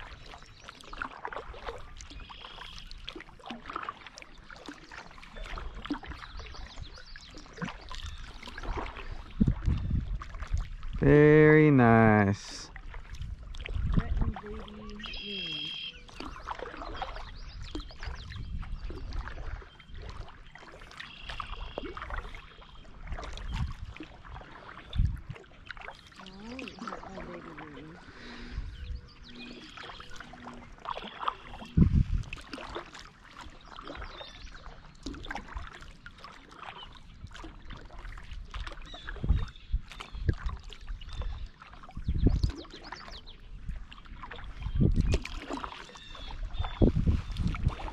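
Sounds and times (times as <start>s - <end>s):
paddle splashing through water: 0.0s - 47.9s.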